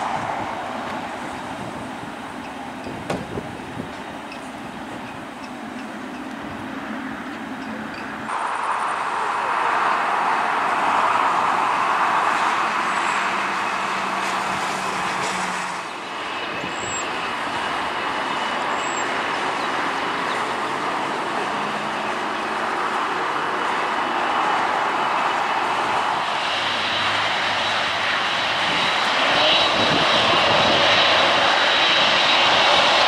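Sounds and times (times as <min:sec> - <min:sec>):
high jet engine whine: 0:00.0 - 0:33.0
jet engines taxiing: 0:00.0 - 0:33.0.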